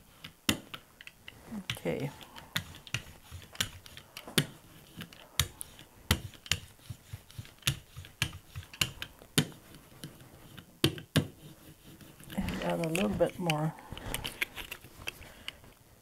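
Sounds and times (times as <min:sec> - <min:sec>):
paint roller clicking and knocking: 0:02.0 - 0:15.6.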